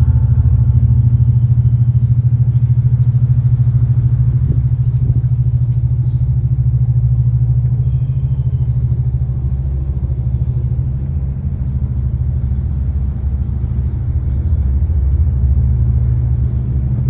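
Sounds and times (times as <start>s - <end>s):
ferry diesel engines rumbling: 0.0s - 17.0s.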